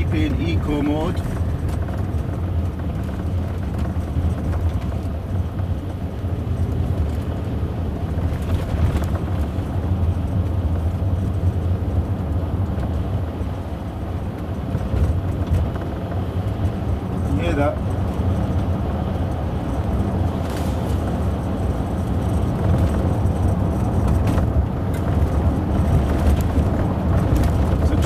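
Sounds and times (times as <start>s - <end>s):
road and tyre noise on wet road: 0.0s - 28.0s.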